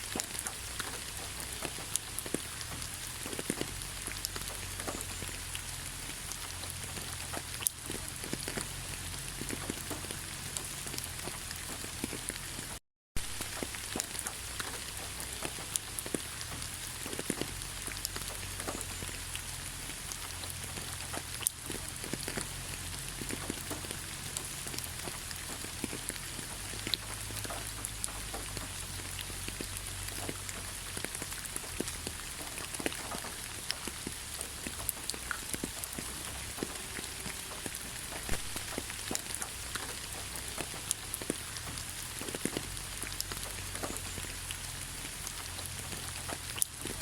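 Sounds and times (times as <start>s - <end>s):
raindrops ticking close by: 0.0s - 47.0s
steady rain hiss: 0.0s - 47.0s.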